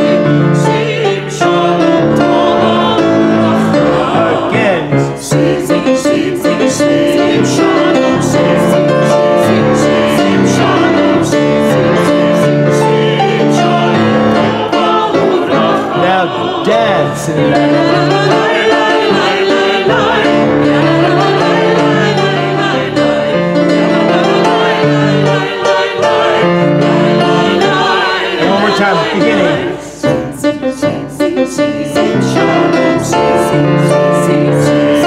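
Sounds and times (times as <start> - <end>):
grand piano accompaniment: 0.0 - 35.0
mixed choir singing: 0.0 - 35.0.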